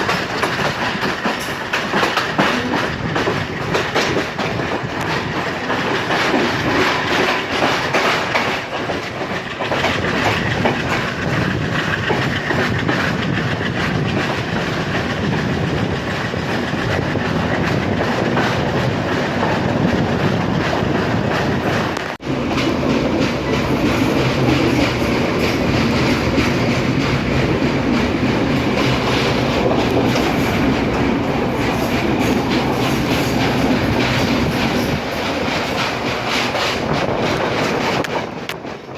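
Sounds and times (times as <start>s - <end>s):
low train hum: 0.0s - 38.9s
train wheels clicking over rail joints: 0.0s - 38.9s.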